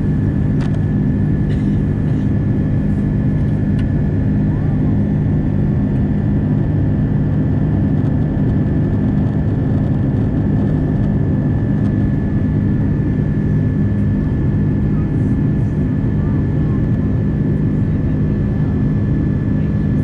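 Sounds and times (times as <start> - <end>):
jet engines humming: 0.0 - 20.0.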